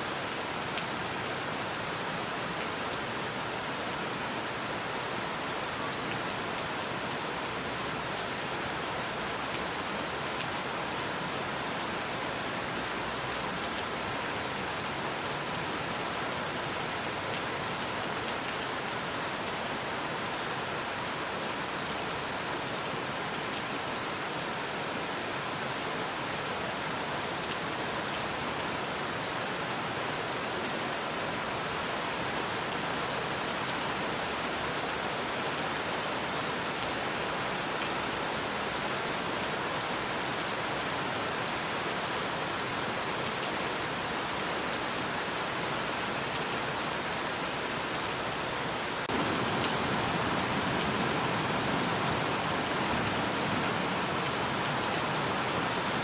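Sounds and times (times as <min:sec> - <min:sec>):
patter of raindrops: 0:00.0 - 0:56.0
steady rainfall: 0:00.0 - 0:56.0.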